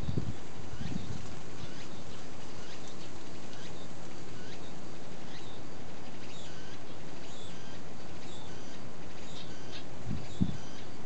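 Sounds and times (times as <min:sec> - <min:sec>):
small birds chirping: 0:00.0 - 0:11.0
steady outdoor hiss: 0:00.0 - 0:11.0.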